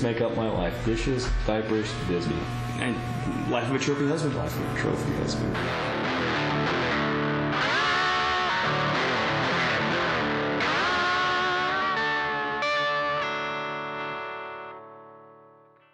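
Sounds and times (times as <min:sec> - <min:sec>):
distorted electric guitar chords: 0:00.0 - 0:15.8.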